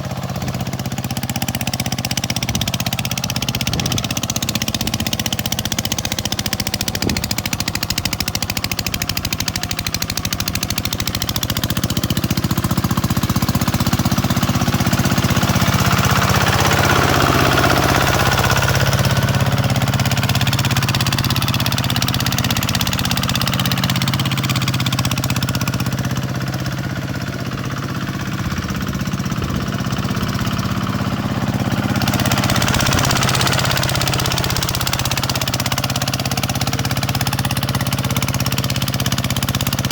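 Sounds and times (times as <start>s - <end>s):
tractor diesel engine clattering: 0.0s - 39.9s.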